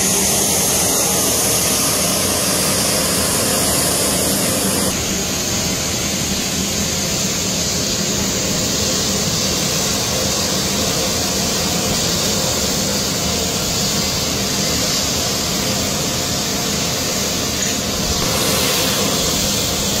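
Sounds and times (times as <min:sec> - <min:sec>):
jet turbine rushing noise: 0:00.0 - 0:20.0.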